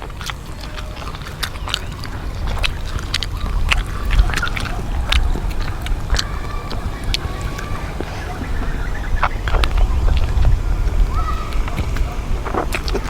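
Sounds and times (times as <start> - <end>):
crunchy chewing: 0.0 - 13.0
low rumble: 0.0 - 13.0
mouth clicks: 0.0 - 13.0.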